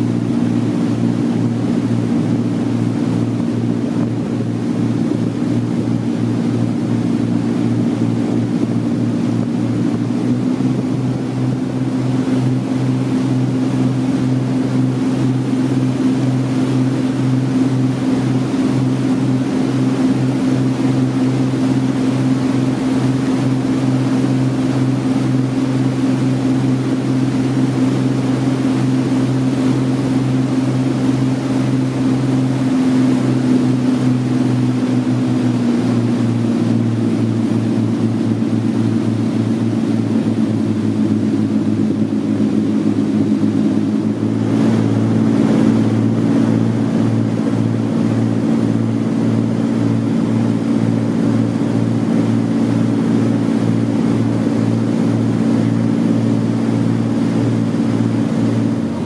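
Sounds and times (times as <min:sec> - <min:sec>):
boat engine running: 0:00.0 - 0:59.0
water and hull noise: 0:00.0 - 0:59.0.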